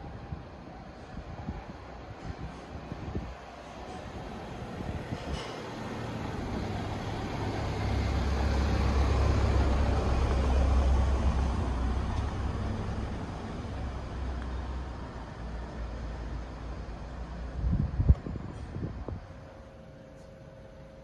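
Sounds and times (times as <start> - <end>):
traffic noise: 0.0 - 21.0
vehicle engine rumble passing: 1.8 - 20.3.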